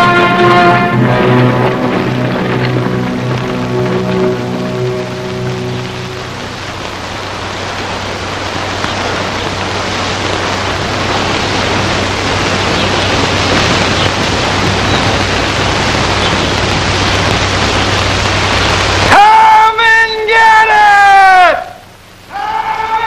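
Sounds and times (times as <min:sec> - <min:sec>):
low hum: 0:00.0 - 0:19.1.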